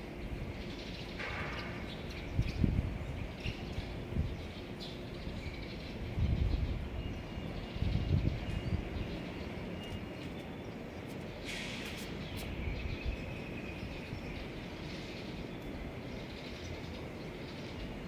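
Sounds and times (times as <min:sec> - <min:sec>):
bird chirps: 0:00.6 - 0:18.0.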